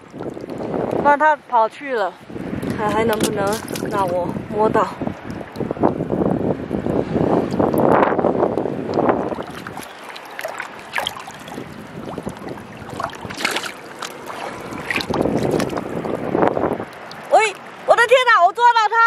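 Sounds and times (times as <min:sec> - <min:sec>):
seawater splashing among rocks: 0:00.0 - 0:01.2, 0:02.0 - 0:18.2
wind gusting on microphone: 0:00.0 - 0:19.0.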